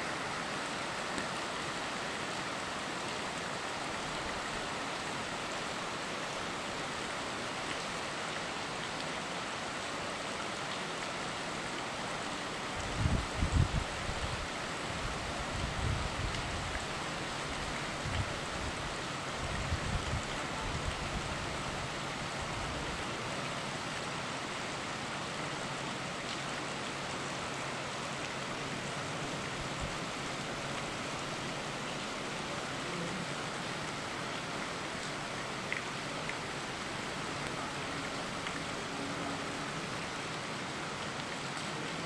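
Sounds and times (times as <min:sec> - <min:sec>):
flowing river: 0:00.0 - 0:42.0
rain: 0:00.0 - 0:42.0.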